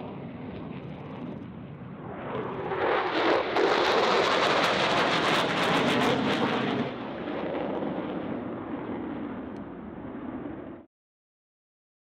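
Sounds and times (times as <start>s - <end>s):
jet flying past low: 0.0s - 10.9s.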